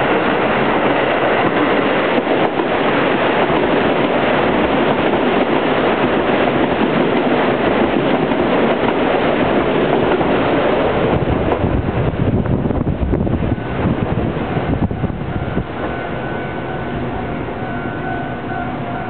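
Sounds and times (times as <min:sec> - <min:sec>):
diesel train passing: 0:00.0 - 0:19.0
wind rumbling on microphone: 0:00.0 - 0:19.0.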